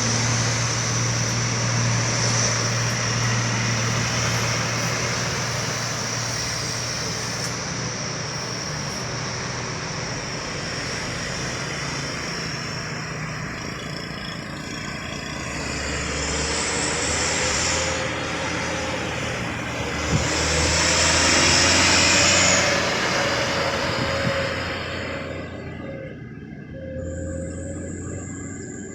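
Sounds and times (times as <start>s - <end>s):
heavy vehicles passing: 0.0s - 28.9s.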